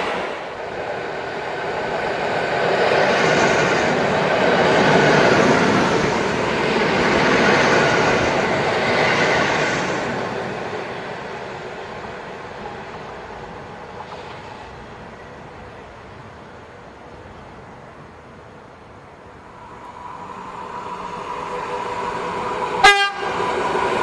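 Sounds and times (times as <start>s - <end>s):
electric train passing on rails: 0.0s - 24.0s.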